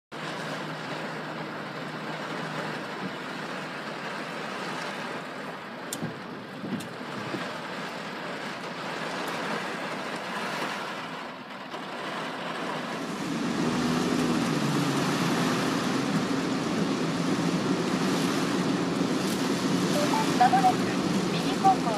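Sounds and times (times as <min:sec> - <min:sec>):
road and wind noise in car: 0:00.1 - 0:21.9.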